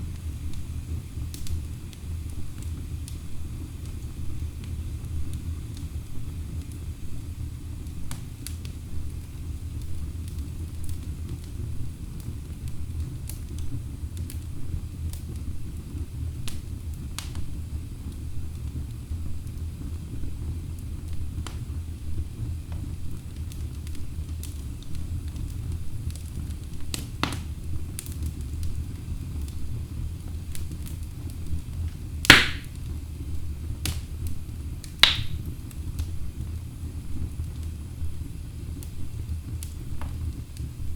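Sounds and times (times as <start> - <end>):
fire crackling: 0.0 - 40.9
loud sharp pops from fire: 0.1 - 6.8, 7.8 - 20.2, 20.8 - 40.9.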